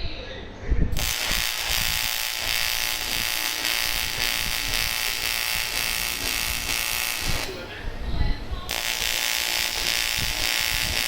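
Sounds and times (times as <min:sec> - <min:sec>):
welding arc buzzing: 0:00.9 - 0:11.0
welding hiss: 0:01.0 - 0:07.8, 0:08.7 - 0:11.0.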